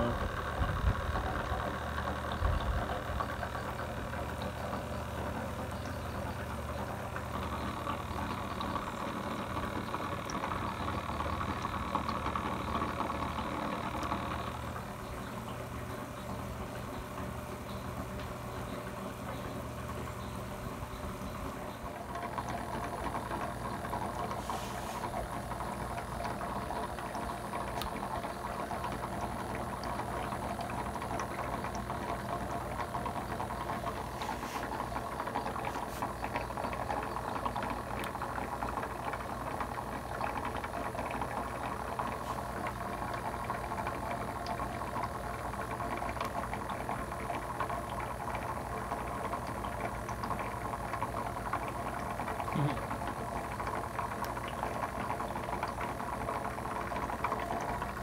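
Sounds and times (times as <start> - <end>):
electric motor hum: 0.0 - 58.0
water noise: 0.0 - 58.0.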